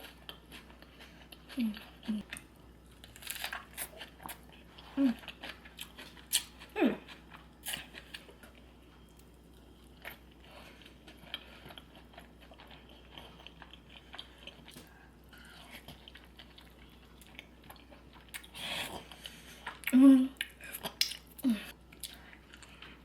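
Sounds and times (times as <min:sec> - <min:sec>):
chewing and wet mouth sounds: 0:00.0 - 0:23.0.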